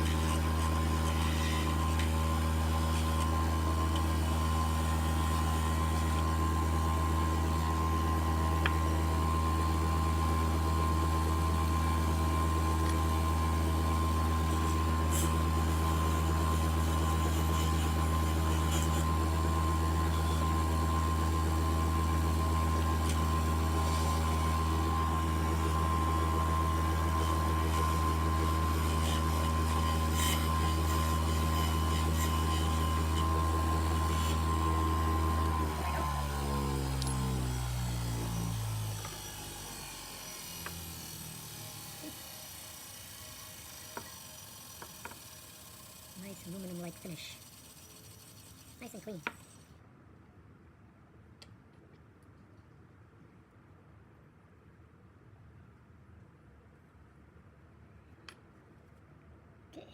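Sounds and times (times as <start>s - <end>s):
grinder motor hum: 0.0s - 49.7s
metal scratching on grinding wheel: 0.0s - 49.7s.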